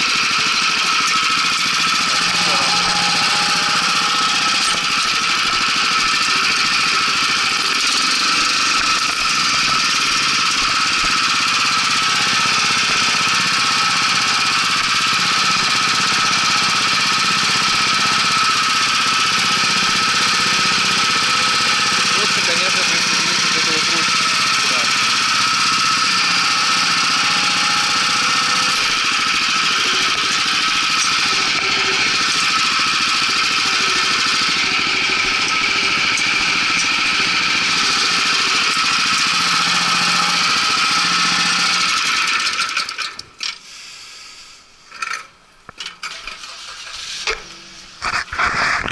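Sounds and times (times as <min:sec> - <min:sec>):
small petrol engine running: 0:00.0 - 0:43.6, 0:45.8 - 0:48.9.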